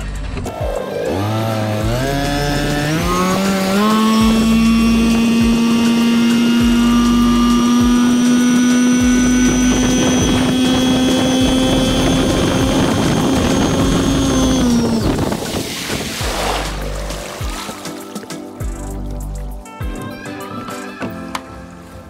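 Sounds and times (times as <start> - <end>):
outboard motor accelerating: 0.0 - 19.5.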